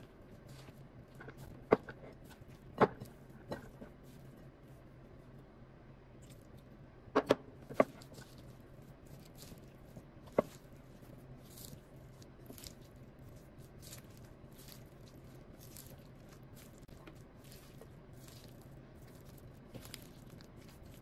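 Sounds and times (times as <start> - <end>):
spatula stirring thick batter: 0.0 - 4.9, 7.7 - 21.0.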